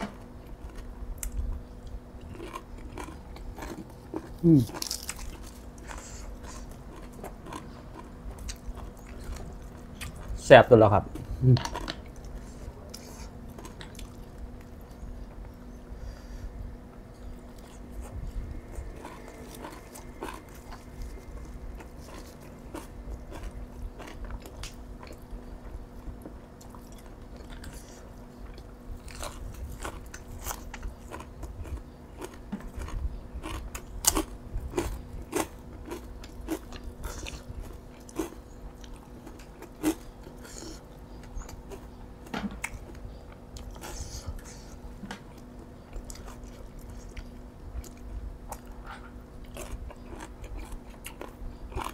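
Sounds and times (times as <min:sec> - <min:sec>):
close-up chewing and crunching: 0:00.2 - 0:16.0, 0:16.8 - 0:51.9.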